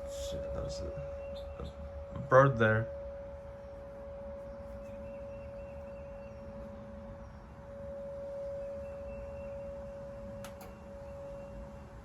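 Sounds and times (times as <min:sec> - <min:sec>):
warning siren steady tone: 0:00.0 - 0:12.0.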